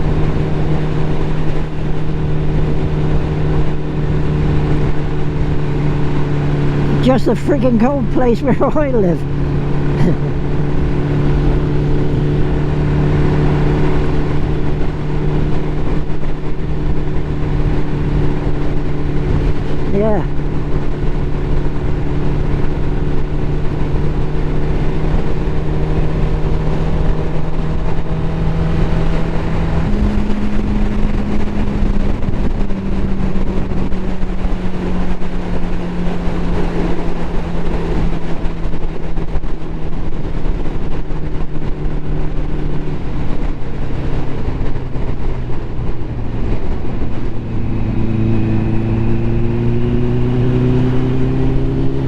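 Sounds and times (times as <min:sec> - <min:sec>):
motorcycle engine running: 0:00.0 - 0:52.0
wind rush: 0:10.1 - 0:52.0.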